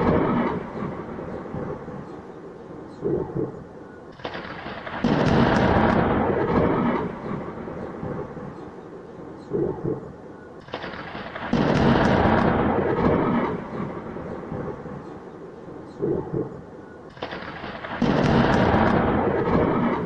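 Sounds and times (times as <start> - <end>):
thunder rumbling: 0.0 - 20.0.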